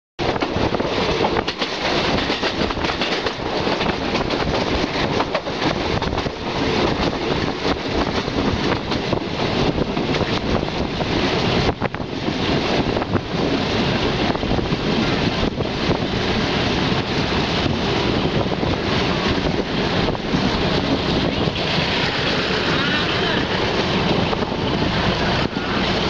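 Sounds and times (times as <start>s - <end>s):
train wheels clattering on track: 0.2s - 26.0s
wind rushing over microphone: 0.2s - 26.0s.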